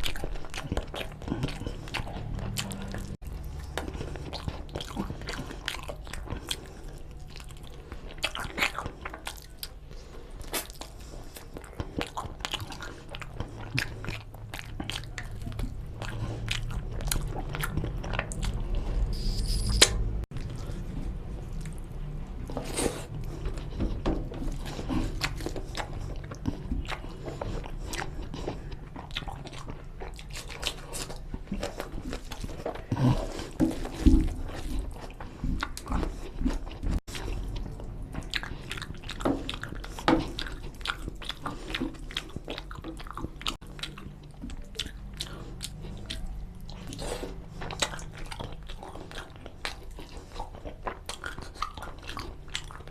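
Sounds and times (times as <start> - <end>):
close chewing and biting: 0.0 - 52.9.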